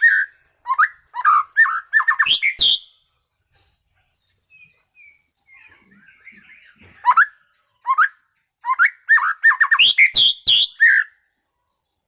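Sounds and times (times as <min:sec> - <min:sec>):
bird whistled song: 0:00.0 - 0:03.1, 0:04.2 - 0:12.0
soft bird twittering: 0:00.0 - 0:12.0.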